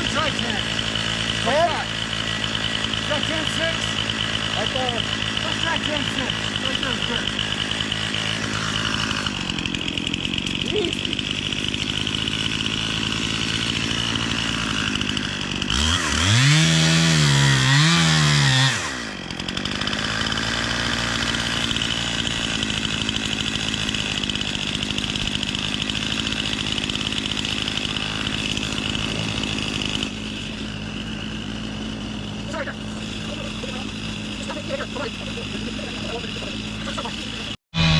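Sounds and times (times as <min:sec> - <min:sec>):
chainsaw cutting log: 0:00.0 - 0:37.9.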